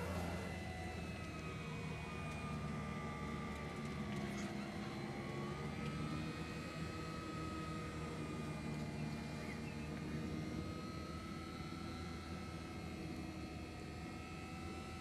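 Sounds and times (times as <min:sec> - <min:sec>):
electric motor whining drone: 0:00.0 - 0:15.0.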